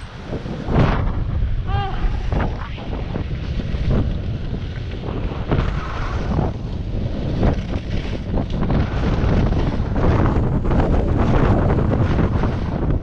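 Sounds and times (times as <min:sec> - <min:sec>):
wind buffeting microphone: 0:00.0 - 0:13.0
skis scraping on snow: 0:02.3 - 0:13.0.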